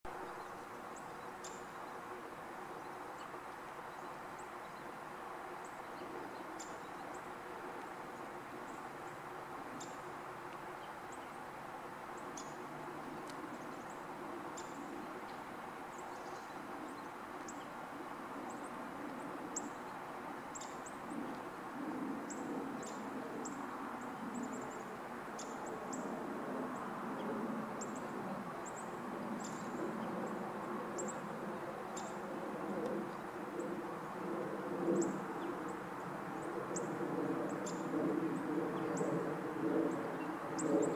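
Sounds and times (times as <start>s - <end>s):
outdoor background hiss and rumble: 0.1s - 40.9s.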